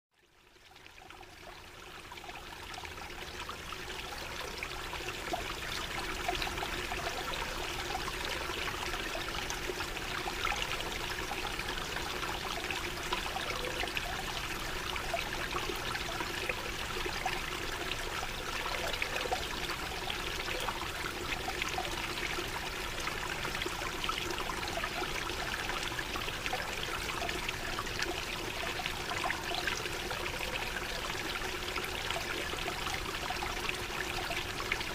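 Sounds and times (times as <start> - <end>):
water trickling and splashing: 0.2 - 34.9.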